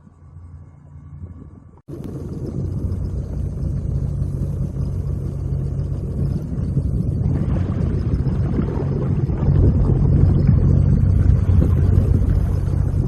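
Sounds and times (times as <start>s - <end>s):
watercraft engine rumble: 0.0s - 13.0s.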